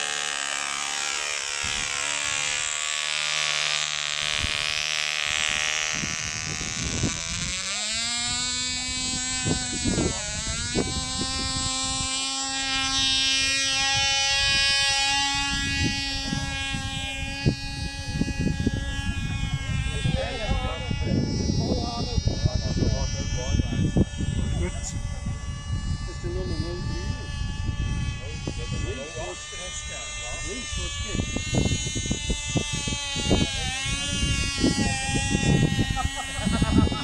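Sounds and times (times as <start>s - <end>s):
tiny model engine buzzing: 0.0s - 37.0s.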